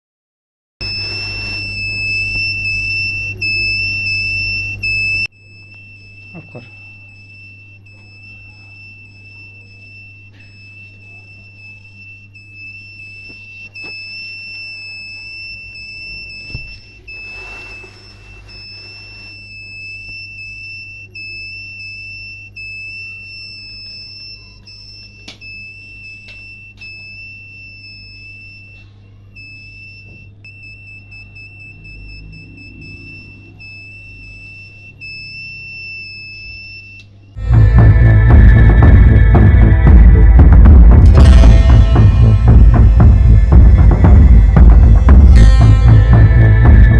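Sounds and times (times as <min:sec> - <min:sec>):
piezo buzzer high-pitched tone: 0:00.8 - 0:46.9.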